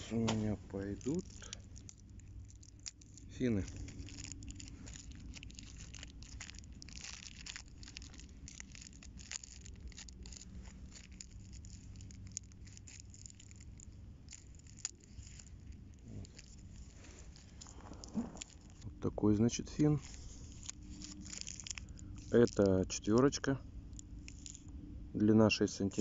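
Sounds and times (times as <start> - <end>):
packaging crackling: 0.0 - 24.7
low steady rumble: 0.0 - 26.0.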